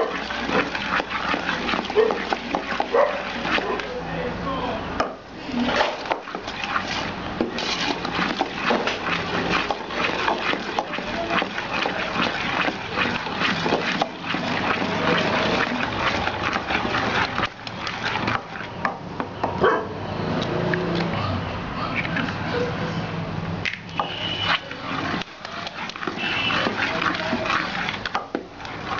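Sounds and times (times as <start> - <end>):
spoon beating batter in metal bowl: 0.0 - 4.1, 5.0 - 19.5, 23.7 - 28.9.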